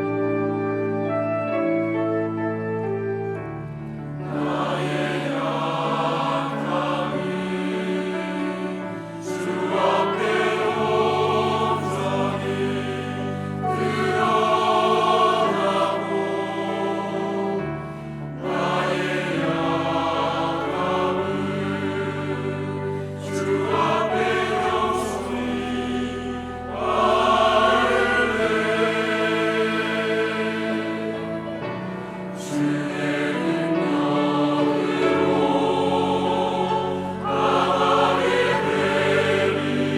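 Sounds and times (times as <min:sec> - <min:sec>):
choir singing a hymn: 0:00.0 - 0:39.9
organ: 0:00.0 - 0:39.9
piano: 0:00.0 - 0:39.9
strings and winds: 0:00.0 - 0:39.9.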